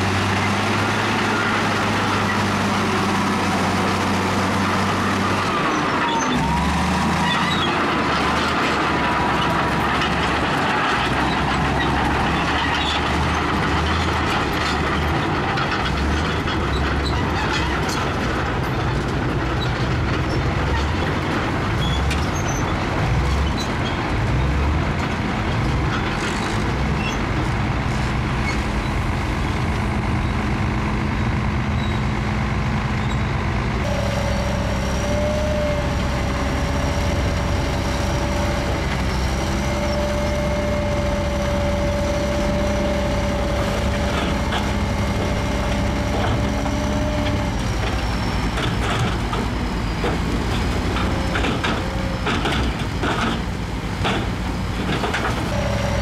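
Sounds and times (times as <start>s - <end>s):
diesel machinery engines rumbling: 0.0s - 56.0s.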